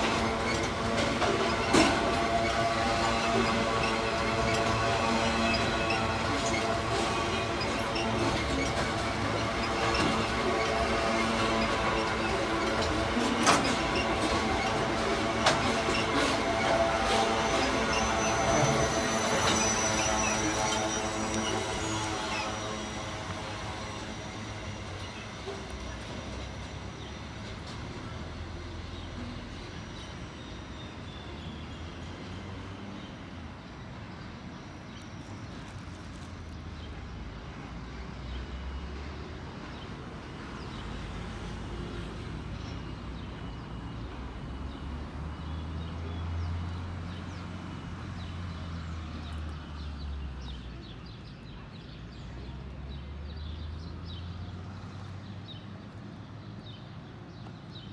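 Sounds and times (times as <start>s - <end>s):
freight train rumbling on rails: 0.0s - 57.9s.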